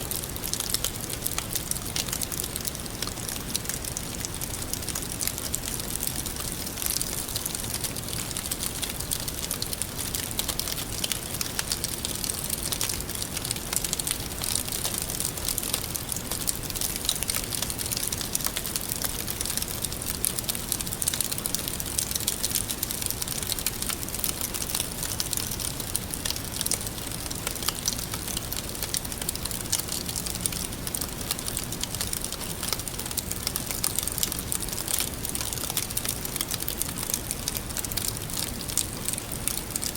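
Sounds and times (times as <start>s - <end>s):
campfire crackling: 0.2s - 39.9s.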